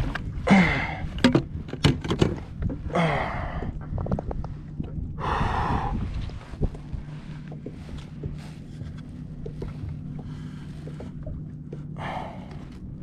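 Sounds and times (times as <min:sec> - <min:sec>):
wind on microphone: 0:00.0 - 0:11.4
steady low hum: 0:00.0 - 0:13.0.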